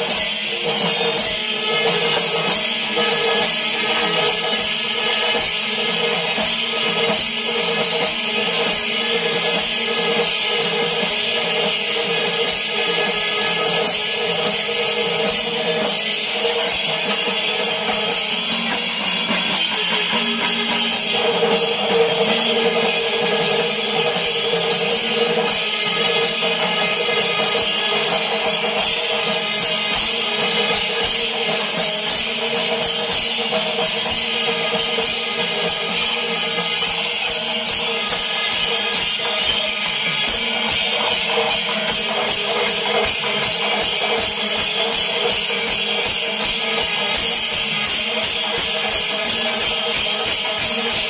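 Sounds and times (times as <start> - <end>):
jingling tambourine-like percussion: 0.0 - 51.0.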